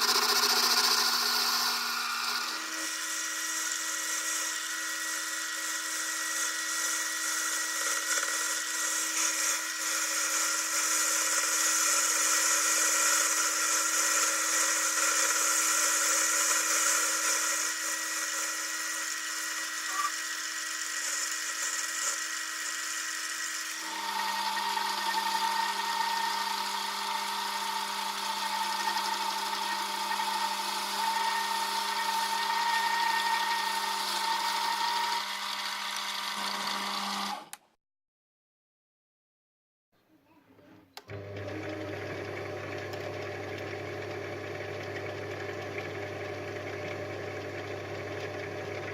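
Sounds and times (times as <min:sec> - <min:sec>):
lathe motor whine: 0:00.0 - 0:37.5, 0:41.1 - 0:48.9.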